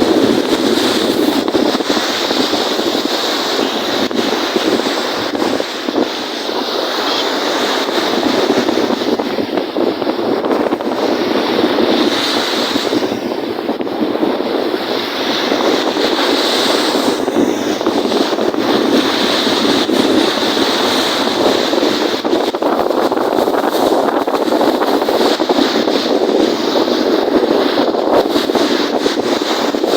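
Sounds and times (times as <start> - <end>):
waves washing on lake: 0.0 - 29.9
wind buffeting microphone: 0.0 - 29.9.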